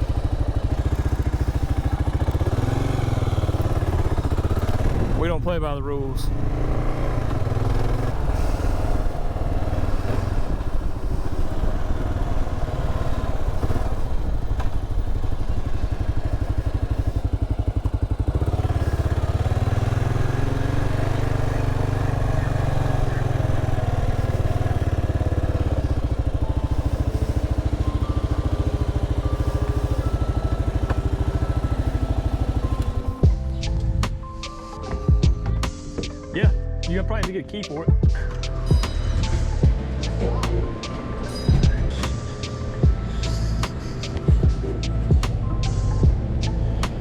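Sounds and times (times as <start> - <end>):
motorcycle engine running: 0.0 - 37.3, 37.9 - 47.0.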